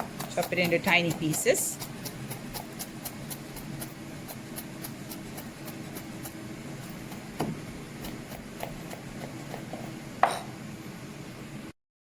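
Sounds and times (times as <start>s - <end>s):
knife chopping on cutting board: 0.0s - 10.5s
steady low hum: 0.0s - 11.8s.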